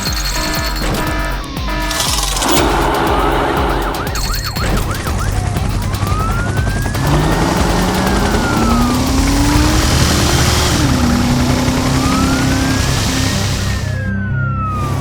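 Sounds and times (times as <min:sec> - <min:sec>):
background music: 0:00.0 - 0:15.0
cartoon siren wailing: 0:00.0 - 0:15.0.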